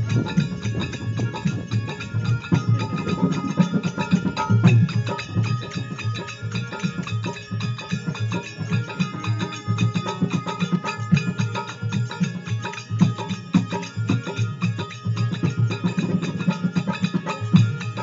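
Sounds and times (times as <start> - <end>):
drums beating fast rhythm: 0.0 - 18.0
held instrumental melody: 0.0 - 18.0.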